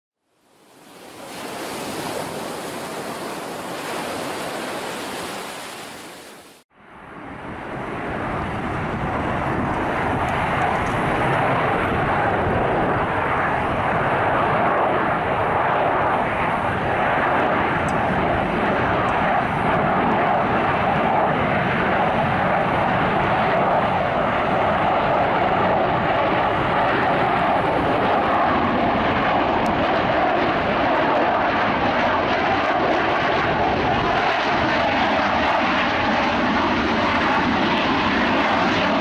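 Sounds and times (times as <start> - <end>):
jet engine roar: 0.6 - 39.0.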